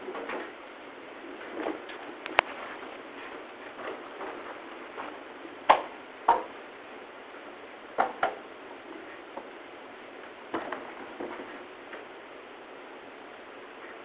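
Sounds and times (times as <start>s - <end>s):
steady room hiss: 0.0s - 14.0s.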